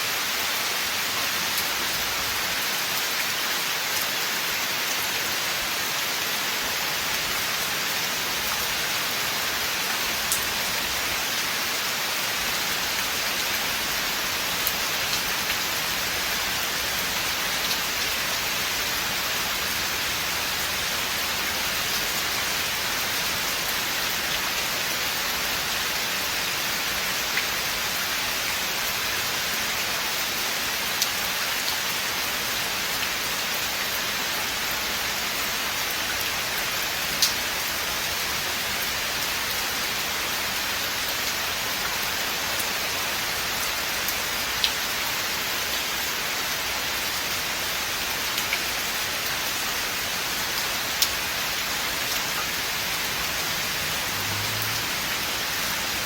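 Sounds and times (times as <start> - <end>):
rain hissing in a forest: 0.0 - 56.0.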